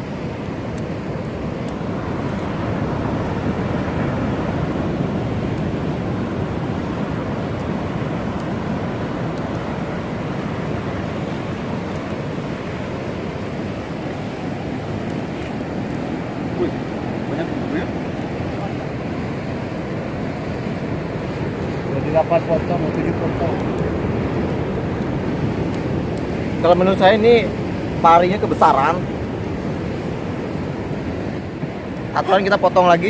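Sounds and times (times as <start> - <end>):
fire crackling: 0.0 - 33.0
surf breaking on beach: 0.0 - 33.0
wind on microphone: 0.0 - 33.0.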